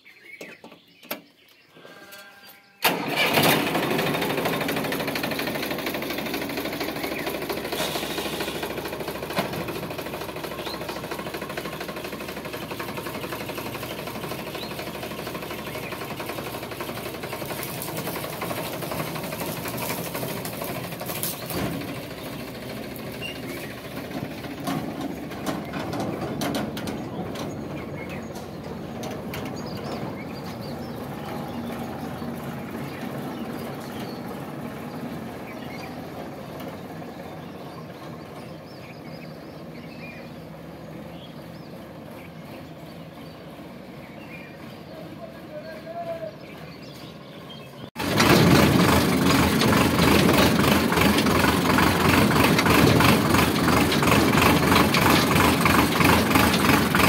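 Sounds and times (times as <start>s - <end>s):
tractor diesel engine running: 2.8s - 57.0s
engine knocking clatter: 2.9s - 40.4s, 48.0s - 57.0s.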